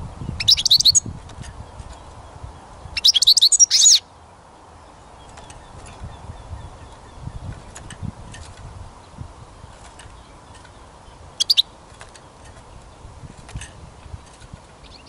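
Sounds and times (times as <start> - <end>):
bird twittering song: 0.0 - 15.0
faint distant bird notes: 0.0 - 15.0.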